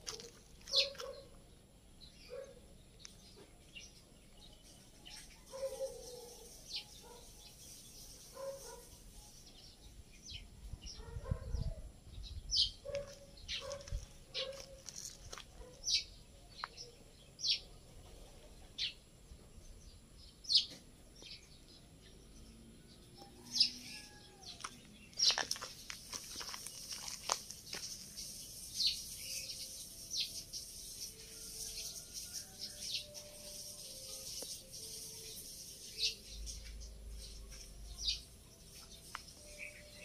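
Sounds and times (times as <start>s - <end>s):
birds chirping: 0.0s - 4.5s, 5.1s - 32.0s, 32.7s - 40.0s.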